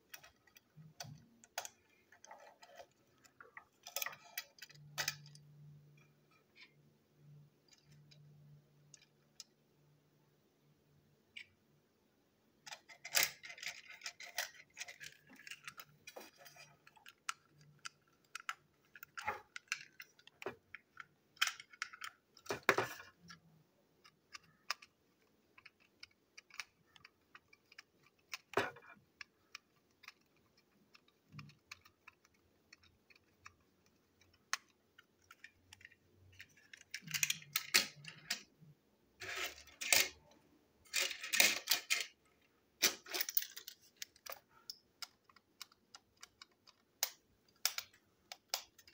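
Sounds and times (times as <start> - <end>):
plastic toy clicking and rattling: 0.0 - 9.6, 12.6 - 38.6, 39.2 - 48.9.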